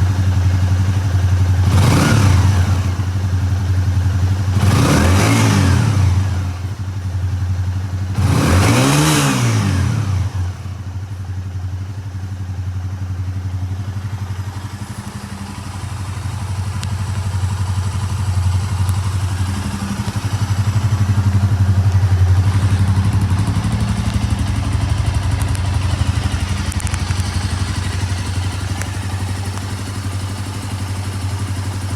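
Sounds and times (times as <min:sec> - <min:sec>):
motorcycle engine revving and idling: 0:00.0 - 0:31.9.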